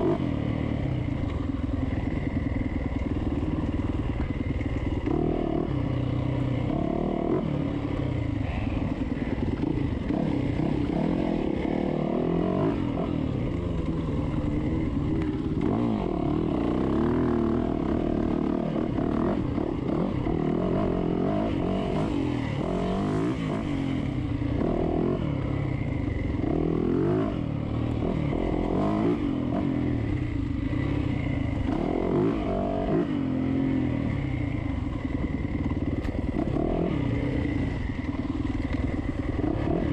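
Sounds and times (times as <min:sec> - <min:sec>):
dirt bike engine revving: 0:02.3 - 0:39.9.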